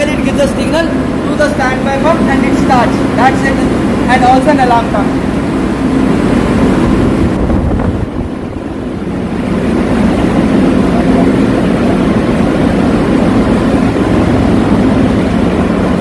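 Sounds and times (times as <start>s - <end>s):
engine room machinery: 0.0s - 16.0s.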